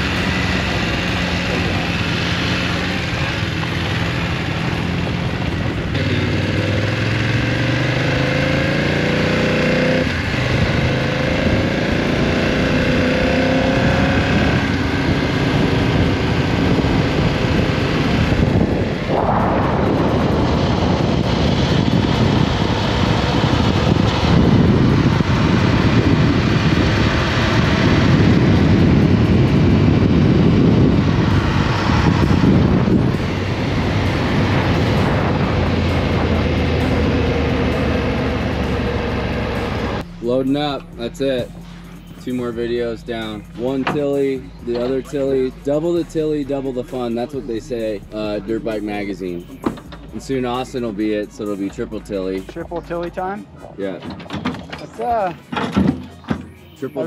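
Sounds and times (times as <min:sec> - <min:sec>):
motorcycle engine revving: 0:00.0 - 0:53.6
riding noise: 0:09.5 - 0:57.0.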